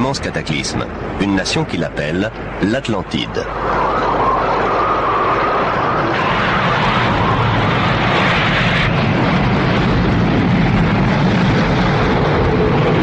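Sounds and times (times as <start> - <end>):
dense rumbling roar: 0.0 - 13.0.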